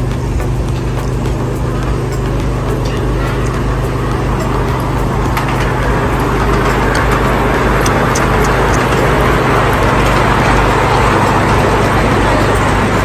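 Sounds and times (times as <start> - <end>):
miniature train humming and rumbling: 0.0 - 13.0.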